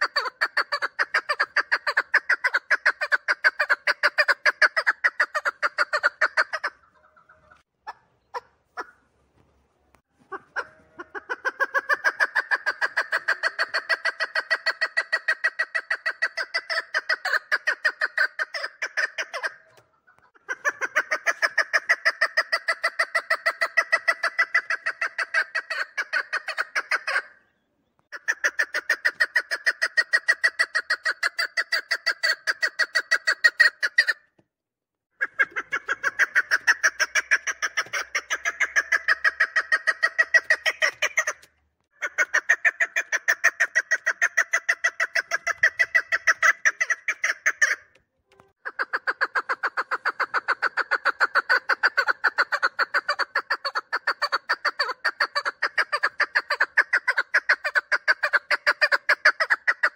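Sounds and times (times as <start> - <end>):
partridge calling chuk notes: 0.0 - 9.0, 10.2 - 34.2, 35.2 - 59.9.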